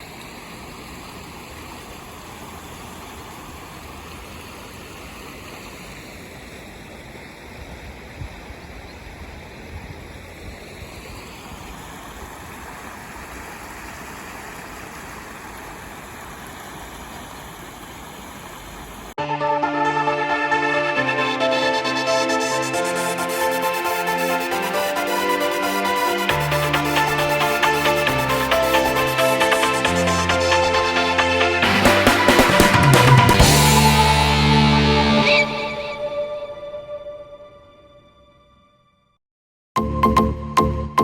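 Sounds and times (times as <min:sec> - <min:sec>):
flowing river rushing: 0:00.0 - 0:36.4.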